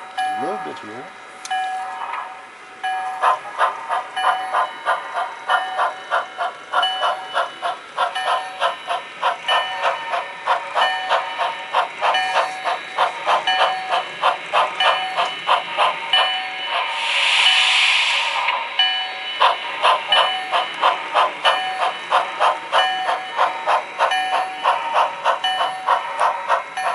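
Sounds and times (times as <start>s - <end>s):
model steam locomotive chuffing: 0.0s - 26.9s
steam hiss: 3.2s - 26.9s.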